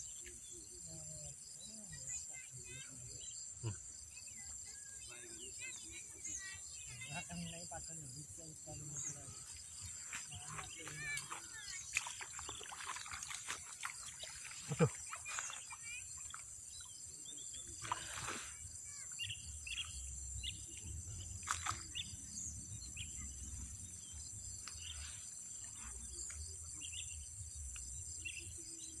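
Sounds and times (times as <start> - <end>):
bird chirps: 0.0 - 29.0
insect chorus: 0.0 - 29.0.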